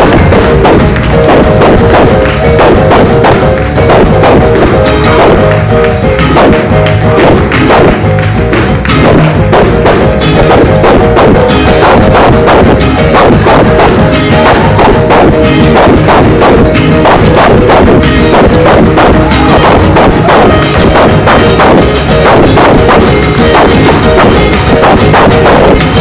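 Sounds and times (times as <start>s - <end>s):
drums: 0.0s - 26.0s.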